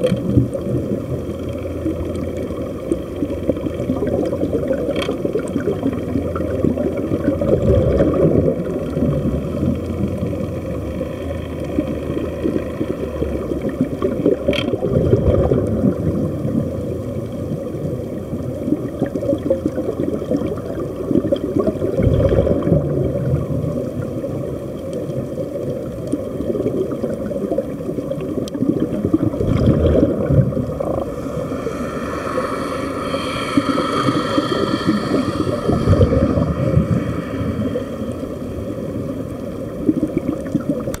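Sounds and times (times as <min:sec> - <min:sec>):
underwater air bubbling: 0:00.0 - 0:41.0.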